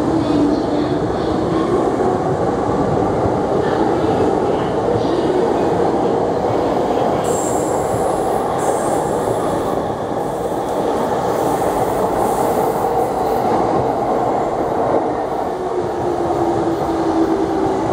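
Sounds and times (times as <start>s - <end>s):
train wheels rushing on rails: 0.0s - 17.9s.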